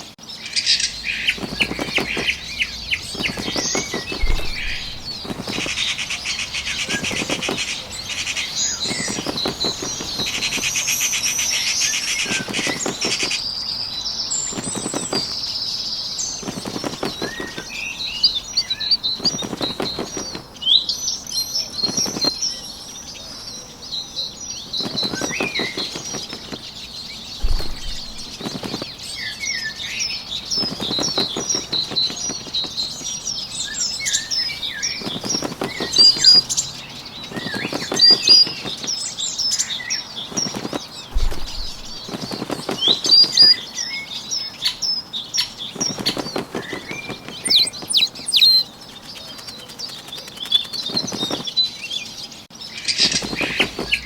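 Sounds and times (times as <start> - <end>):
small birds chirping: 0.0 - 54.0
wing flaps fluttering: 0.9 - 13.5, 14.3 - 20.8, 21.6 - 22.7, 24.6 - 39.2, 40.1 - 43.8, 45.4 - 51.6, 52.9 - 54.0.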